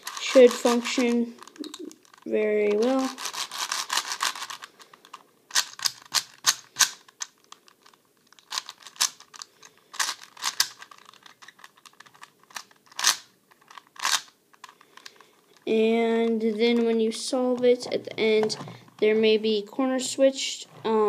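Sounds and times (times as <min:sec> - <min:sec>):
puzzle cube plastic layers clicking: 0:00.0 - 0:19.2.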